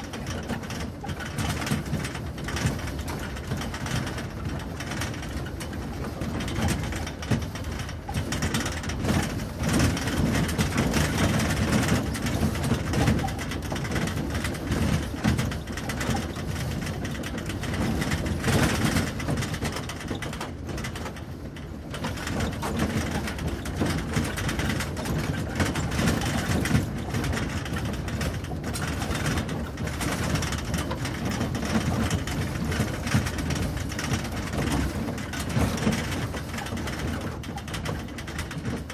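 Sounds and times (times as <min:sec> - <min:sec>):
cargo bed rattling: 0:00.0 - 0:38.9.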